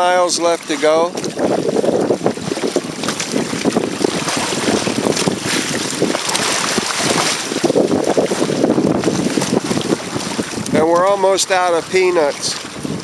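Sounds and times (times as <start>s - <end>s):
water splashing along hulls: 0.0s - 13.0s
wind buffeting microphone: 0.0s - 13.0s.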